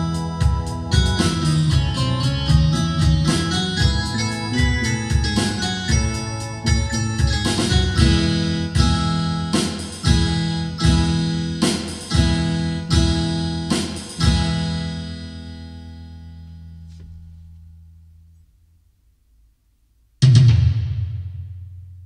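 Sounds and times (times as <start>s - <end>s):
strummed guitar chords: 0.0s - 18.0s.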